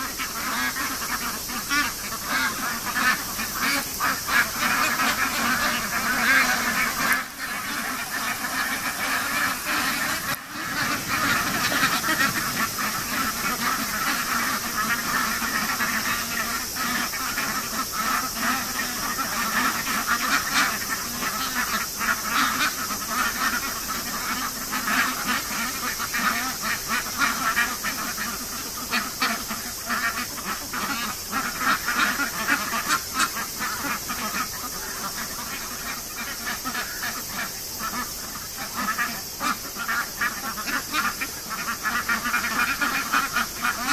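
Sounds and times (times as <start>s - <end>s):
ducks quacking: 0.0s - 43.9s.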